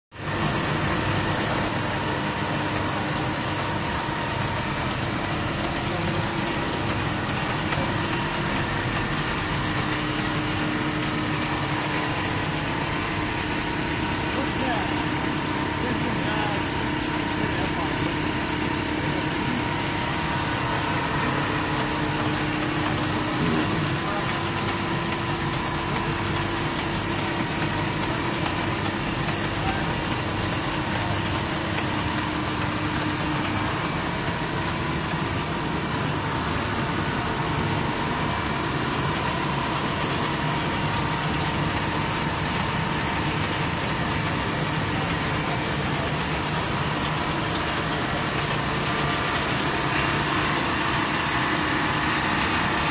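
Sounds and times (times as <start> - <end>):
machine hum and hiss: 0.2 - 52.9.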